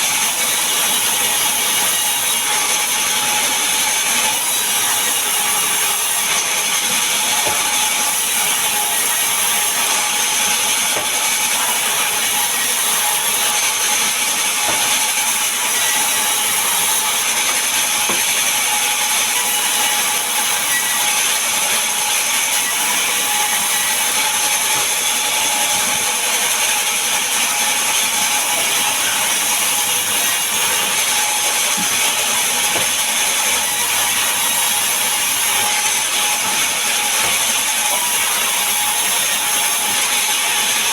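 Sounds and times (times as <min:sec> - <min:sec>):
power saw cutting wood: 0:00.0 - 0:40.9.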